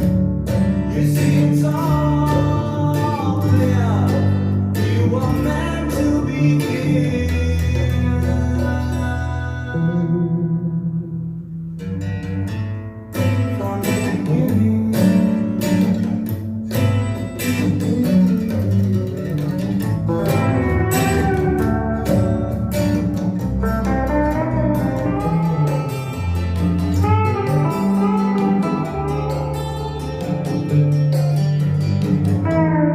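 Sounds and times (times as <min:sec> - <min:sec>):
guitar music with bass: 0:00.0 - 0:32.9.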